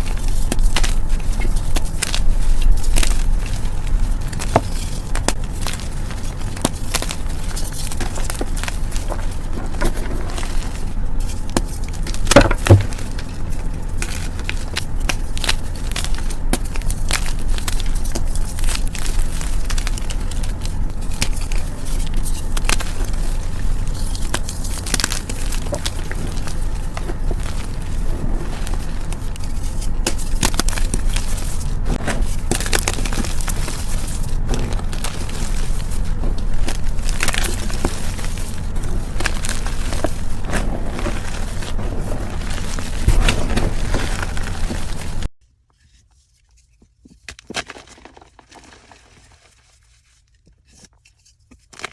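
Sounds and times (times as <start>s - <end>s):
chalk being crushed: 0.0s - 51.9s.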